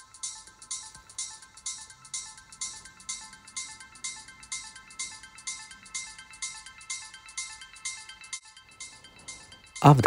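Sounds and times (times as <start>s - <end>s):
light melody of high notes: 0.1s - 10.0s.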